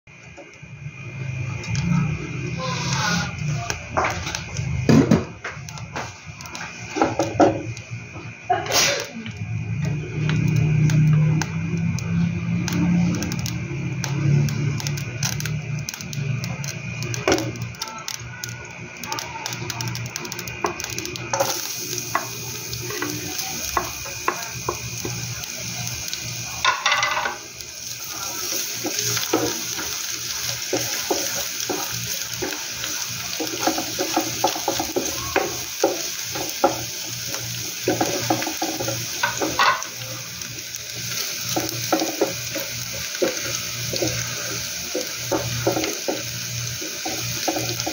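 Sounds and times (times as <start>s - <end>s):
garlic sizzling in oil: 0.2s - 47.9s.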